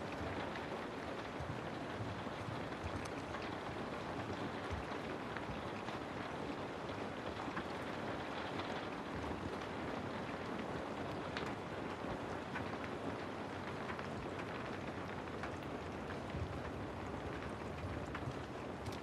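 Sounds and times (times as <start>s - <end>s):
raindrops ticking: 0.0s - 19.0s
steady rainfall: 0.0s - 19.0s.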